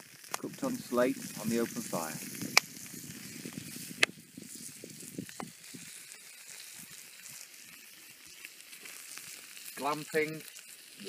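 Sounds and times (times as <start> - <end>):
fire pops: 0.0 - 11.0
steaks sizzling: 0.0 - 11.0.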